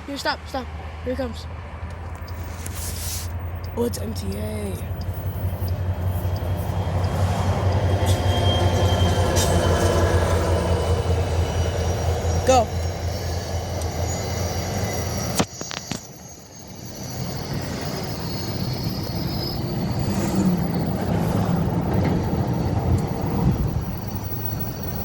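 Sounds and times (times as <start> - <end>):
train passing with low rumble: 0.0 - 25.0.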